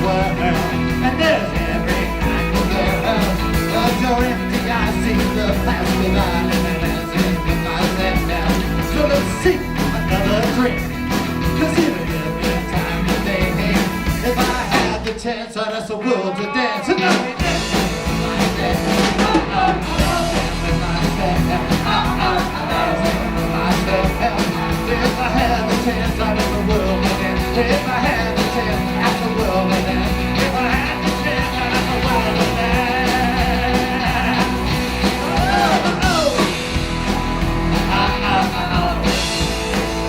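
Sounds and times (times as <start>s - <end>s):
drums beating: 0.0s - 15.4s, 17.0s - 40.0s
guitar: 0.0s - 40.0s.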